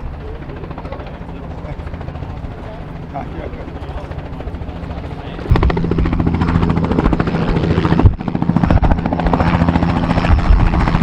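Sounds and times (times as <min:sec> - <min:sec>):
helicopter engine drone: 0:00.0 - 0:11.0
helicopter rotor blades chopping: 0:00.0 - 0:11.0.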